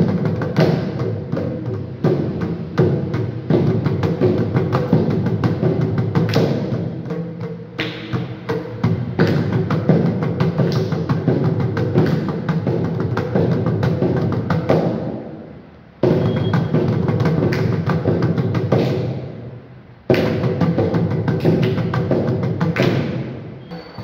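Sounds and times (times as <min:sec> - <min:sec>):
hand drums playing fast runs: 0:00.0 - 0:15.1, 0:16.0 - 0:19.3, 0:20.1 - 0:23.4.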